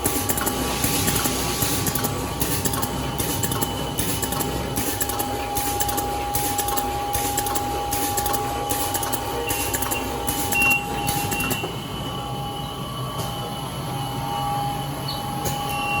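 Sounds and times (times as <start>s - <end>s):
machine humming and whining: 0.0s - 16.0s.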